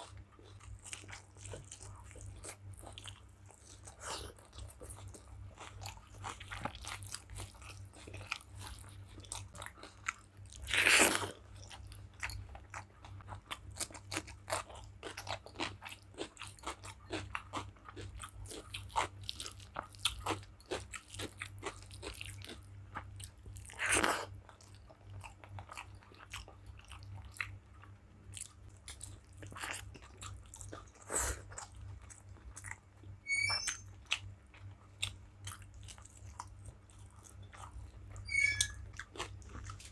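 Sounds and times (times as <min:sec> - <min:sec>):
low steady hum: 0:00.0 - 0:39.9
person chewing and biting food: 0:00.0 - 0:39.9.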